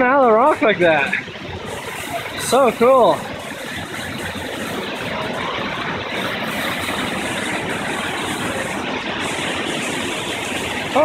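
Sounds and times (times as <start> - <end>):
waterfall splashing onto rocks: 0.0 - 11.0.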